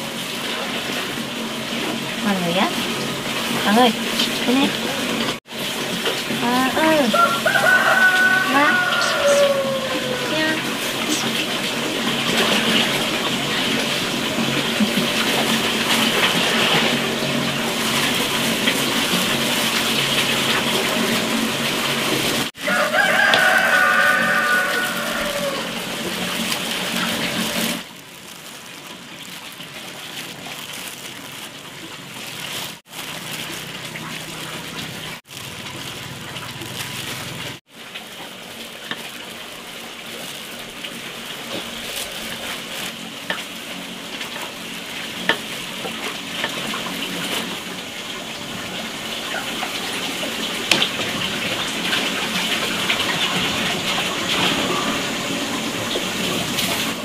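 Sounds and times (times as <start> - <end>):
rush like running water: 0.0 - 57.0.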